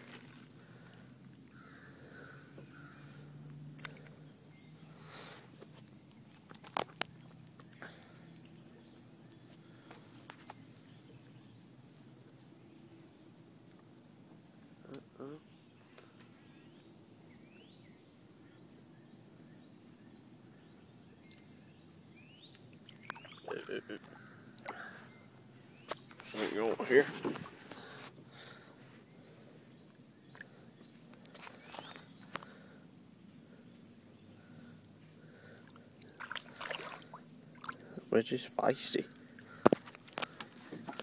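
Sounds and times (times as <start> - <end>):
faint chorus of insects: 0.0 - 41.0.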